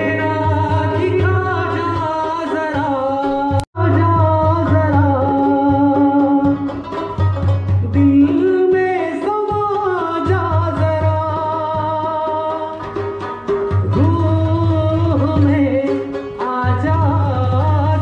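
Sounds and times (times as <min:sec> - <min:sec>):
man singing into a microphone: 0:00.0 - 0:06.8, 0:07.8 - 0:12.9, 0:13.9 - 0:18.0
hand drum: 0:00.0 - 0:18.0
plucked lute: 0:00.0 - 0:18.0.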